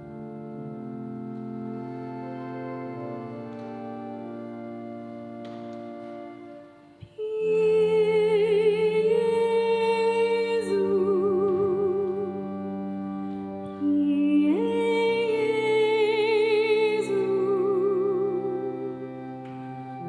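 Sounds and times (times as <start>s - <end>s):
solo melody with wide vibrato: 0.0s - 20.0s
sustained accompanying chords: 0.0s - 20.0s.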